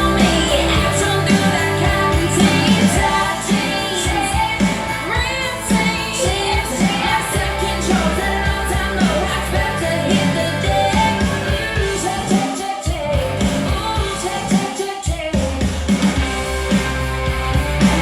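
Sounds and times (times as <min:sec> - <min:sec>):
song through loudspeakers: 0:00.0 - 0:18.0.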